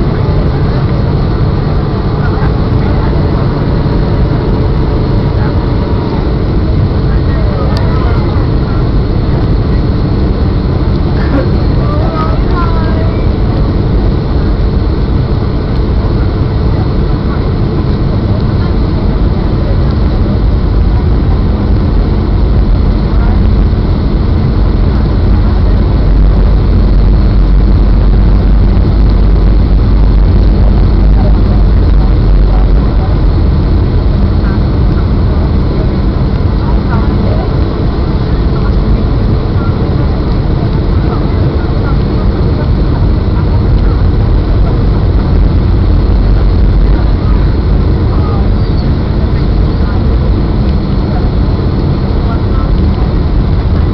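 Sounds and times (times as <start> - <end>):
airflow rush in aircraft cabin: 0.0 - 53.9
heavy low rumble: 0.0 - 53.9
jet engine drone: 0.0 - 53.9.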